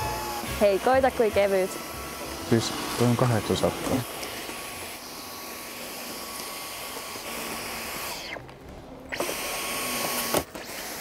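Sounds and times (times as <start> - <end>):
cordless vacuum whining: 0.0 - 11.0.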